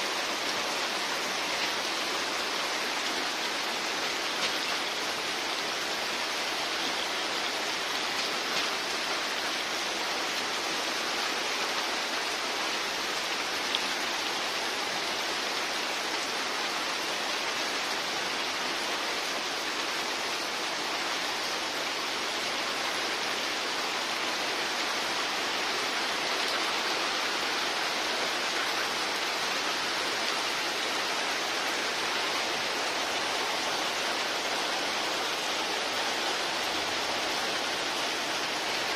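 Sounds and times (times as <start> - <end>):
heavy rain on water: 0.0 - 38.9.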